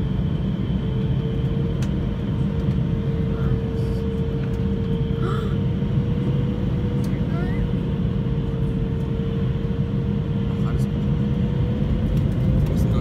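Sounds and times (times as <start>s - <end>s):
constant hum: 0.0s - 13.0s
jet engine and airflow rumble: 0.0s - 13.0s.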